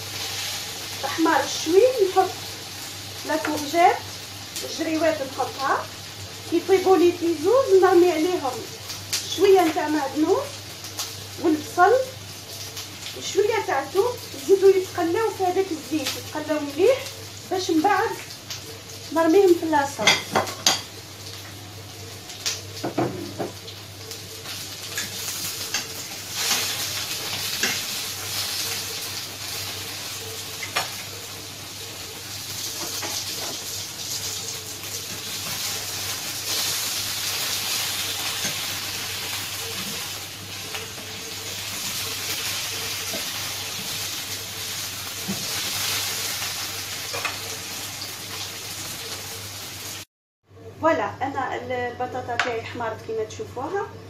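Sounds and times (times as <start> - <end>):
potatoes sizzling in oil: 0.0 - 50.1.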